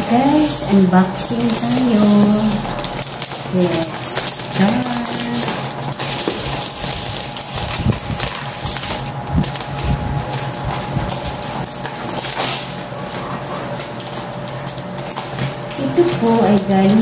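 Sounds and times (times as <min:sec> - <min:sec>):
steady low hum: 0:00.0 - 0:17.0
wrapping paper rustling and tearing: 0:00.0 - 0:17.0.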